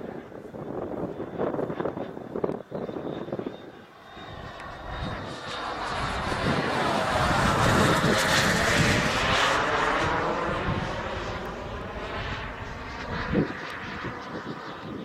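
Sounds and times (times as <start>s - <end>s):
jet engine fly-by: 0.0s - 15.0s.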